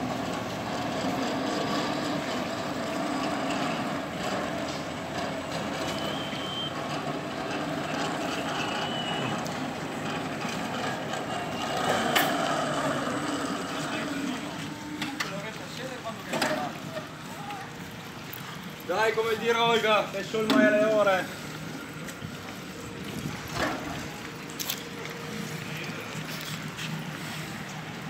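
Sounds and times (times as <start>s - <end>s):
crane mechanical drone: 0.0s - 18.9s, 19.7s - 28.0s.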